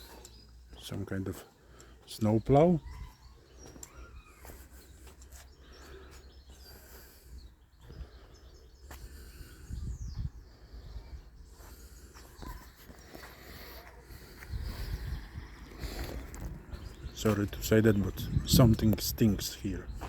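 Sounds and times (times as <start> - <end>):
faint bird chirps: 0.0 - 18.6.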